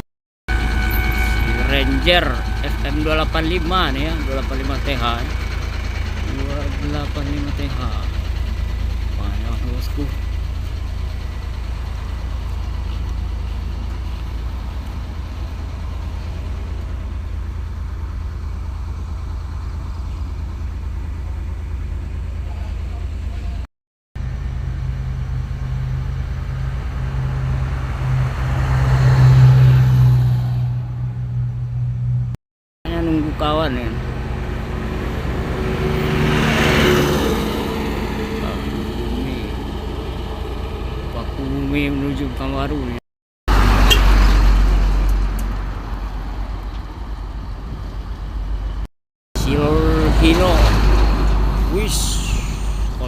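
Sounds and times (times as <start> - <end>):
truck passing by: 0.0 - 53.0
vehicle engine running: 0.5 - 23.6, 24.2 - 53.0.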